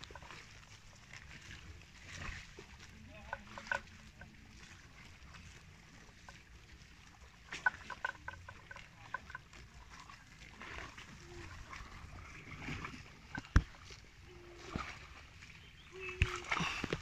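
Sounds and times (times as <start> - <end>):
water buffalo chewing grass: 0.0 - 17.0.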